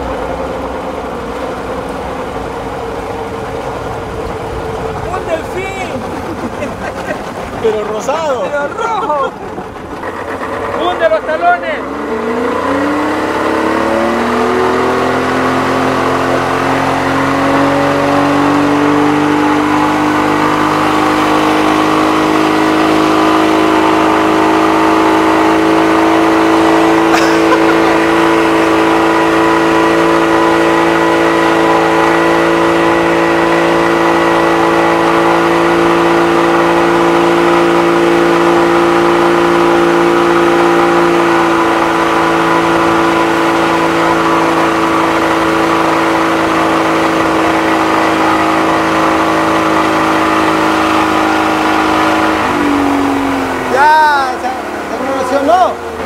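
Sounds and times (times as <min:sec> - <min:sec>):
motorboat engine: 0:00.0 - 0:56.0.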